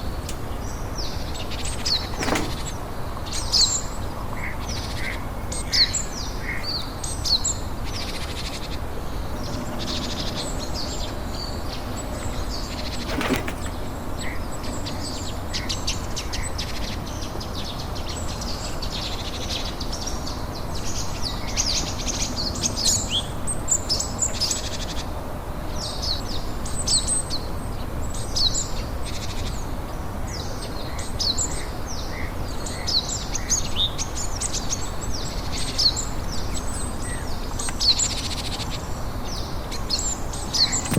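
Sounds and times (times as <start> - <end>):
small birds chirping: 0.0 - 25.1, 25.7 - 40.9.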